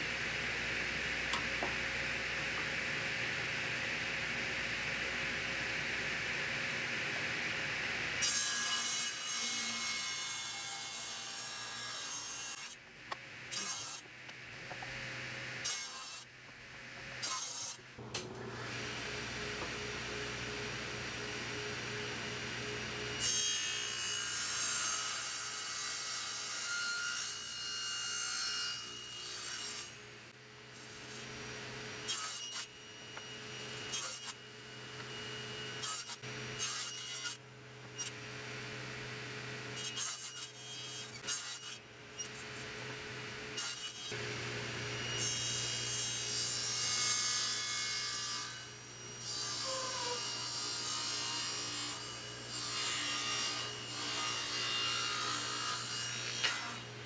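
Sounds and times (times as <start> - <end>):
table saw cutting wood: 0.3 - 12.8, 13.4 - 14.8, 15.5 - 16.3, 17.0 - 30.0, 30.7 - 57.0.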